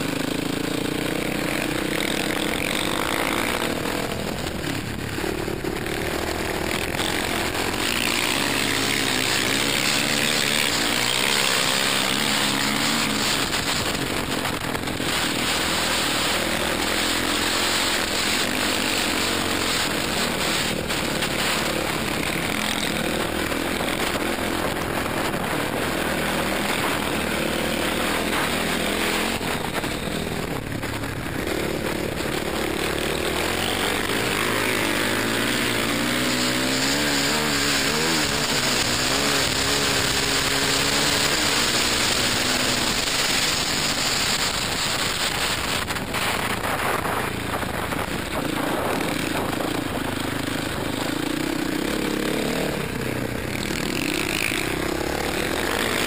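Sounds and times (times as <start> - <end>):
dirt bike engine racing: 0.0 - 56.0
steady rush of noise: 0.0 - 56.0.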